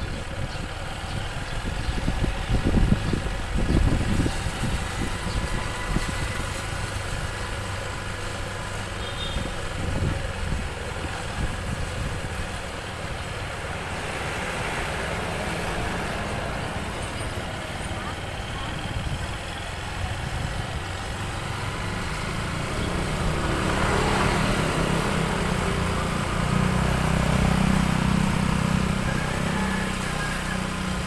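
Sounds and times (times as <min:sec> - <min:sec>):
road noise: 0:00.0 - 0:31.0
vehicle engine running: 0:00.0 - 0:31.0.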